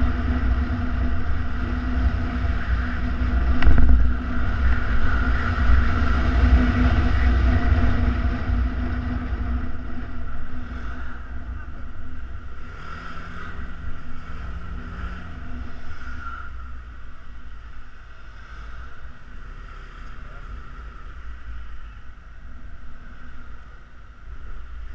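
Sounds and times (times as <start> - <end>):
wind rumble on camera: 0.0 - 24.9.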